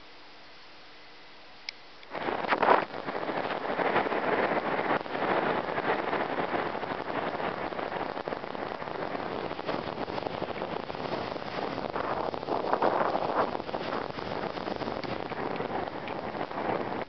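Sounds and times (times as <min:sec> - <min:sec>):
strong wind: 0:02.0 - 0:17.0
breaking surf: 0:02.1 - 0:17.0.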